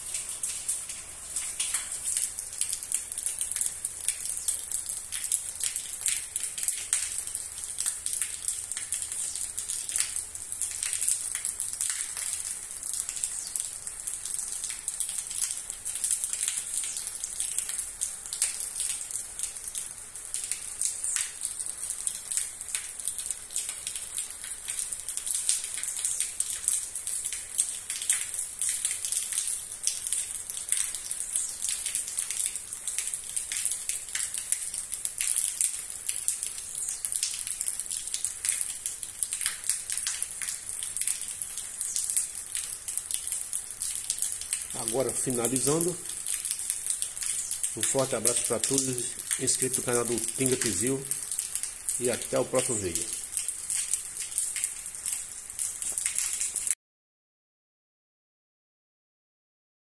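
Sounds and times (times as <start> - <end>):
rain hiss: 0.0 - 56.8
raindrops hitting wet ground: 0.0 - 56.8.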